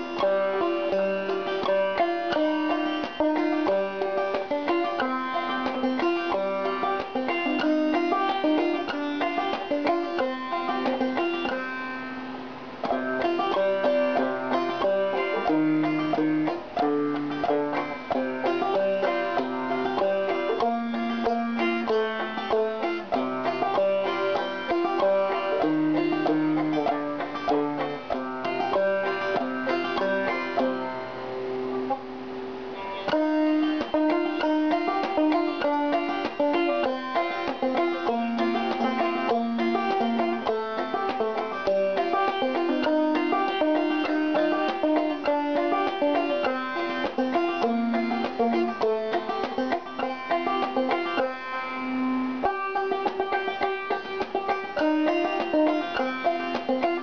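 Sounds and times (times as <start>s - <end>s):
bluegrass banjo music: 0.0s - 57.0s.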